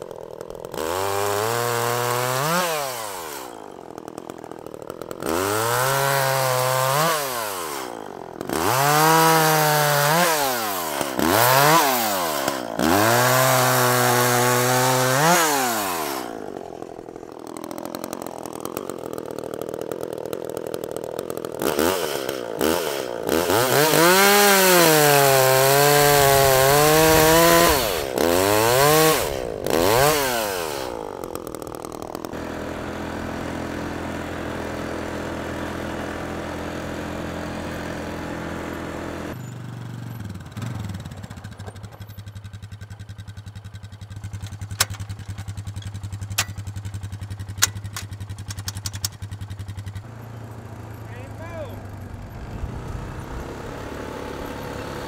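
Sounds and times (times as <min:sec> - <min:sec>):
chainsaw revving and cutting: 0:00.0 - 0:55.0.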